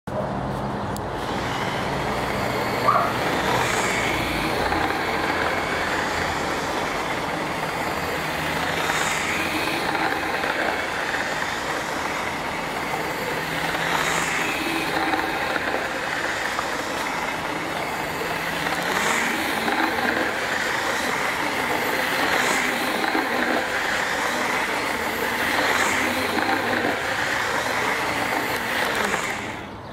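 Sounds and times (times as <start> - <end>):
model train whirring rattle: 0.9 - 29.8.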